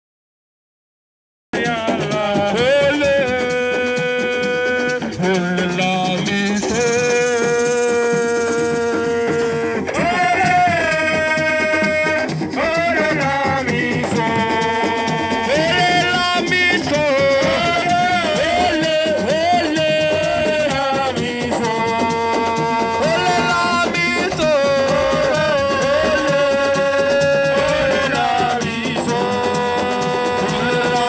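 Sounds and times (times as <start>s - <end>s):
shaker rattle: 1.6s - 31.0s
person singing long notes: 2.3s - 31.0s.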